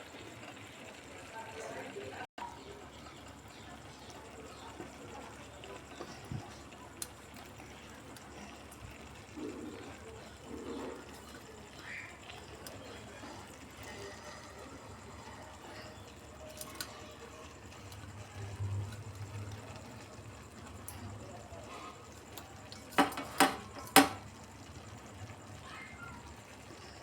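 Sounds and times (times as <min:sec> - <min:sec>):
faint liquid sounds: 0:00.0 - 0:27.0.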